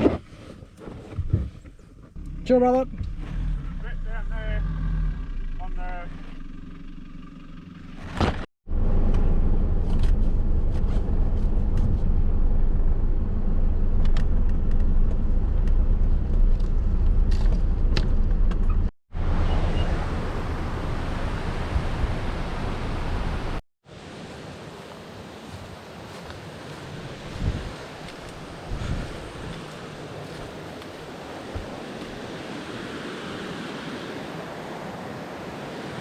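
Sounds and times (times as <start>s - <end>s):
vehicle engine rumbling: 0.3s - 23.6s, 26.1s - 32.4s.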